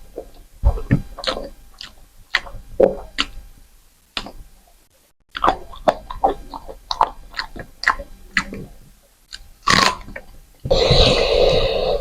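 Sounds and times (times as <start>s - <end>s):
close chewing and mouth sounds: 0.0s - 3.5s, 4.1s - 11.3s.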